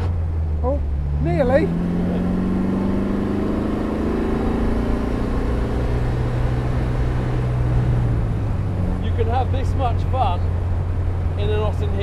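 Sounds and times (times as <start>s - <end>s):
car engine revving: 0.0s - 12.0s
wind and road noise: 0.0s - 12.0s.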